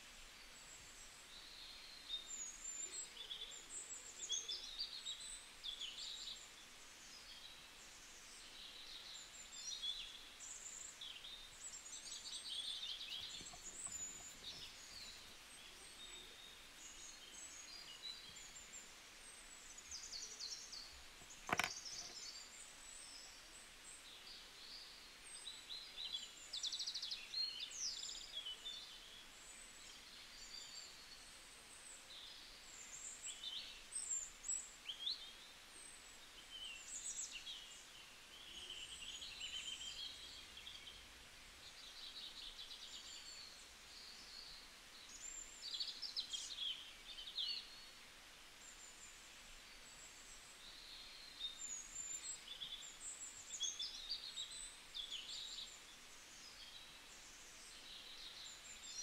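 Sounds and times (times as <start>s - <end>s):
background hiss: 0.0s - 59.0s
small birds chirping: 0.0s - 59.0s.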